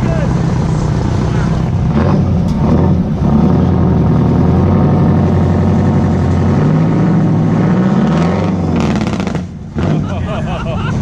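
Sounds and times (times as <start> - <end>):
large engine running and revving: 0.0 - 11.0.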